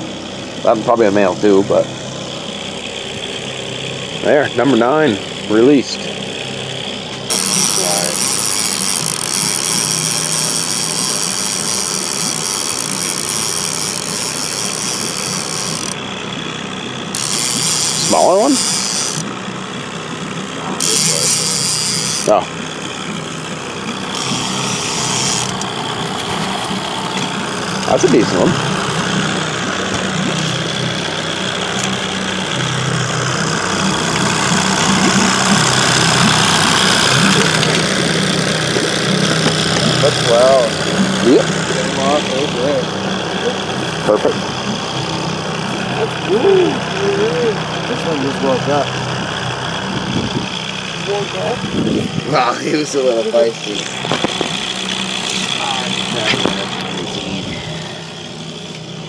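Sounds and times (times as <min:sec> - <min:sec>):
boat motor humming: 0:00.0 - 0:59.0
high-pitched whine: 0:00.0 - 0:59.0.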